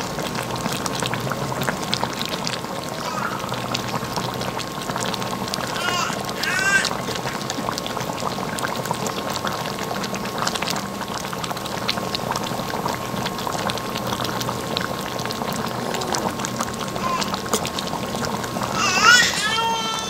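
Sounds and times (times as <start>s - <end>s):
broth simmering and bubbling: 0.0s - 20.0s.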